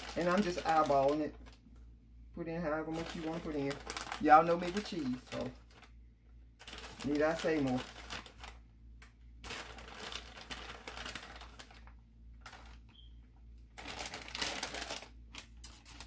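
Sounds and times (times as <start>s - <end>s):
plastic bag crinkling: 0.0s - 1.8s, 2.6s - 8.7s, 9.4s - 16.0s.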